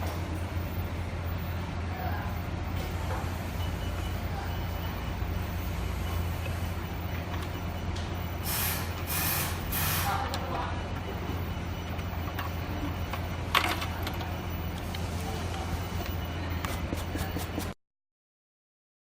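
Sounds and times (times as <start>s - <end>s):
low machine hum: 0.0s - 17.8s.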